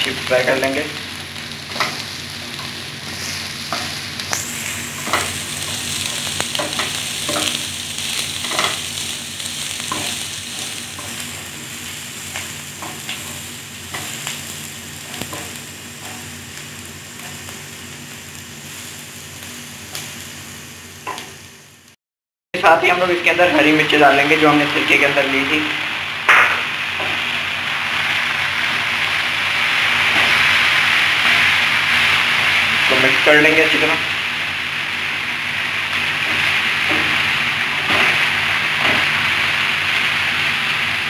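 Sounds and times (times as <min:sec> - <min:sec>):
vegetables sizzling in oil: 0:00.0 - 0:22.0, 0:22.6 - 0:41.0.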